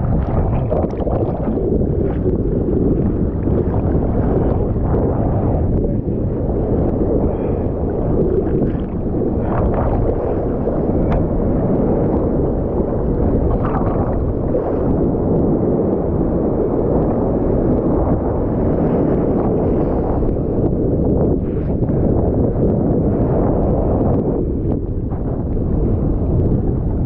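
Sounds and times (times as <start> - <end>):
ocean surf churning: 0.0 - 27.0
wind rumble on microphone: 0.0 - 27.0.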